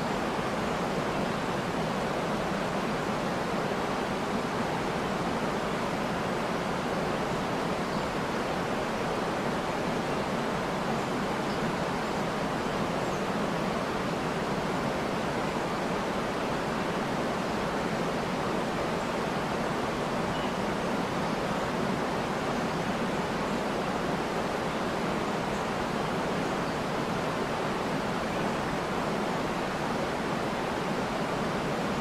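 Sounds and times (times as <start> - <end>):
water rushing over waterfall: 0.0 - 32.0.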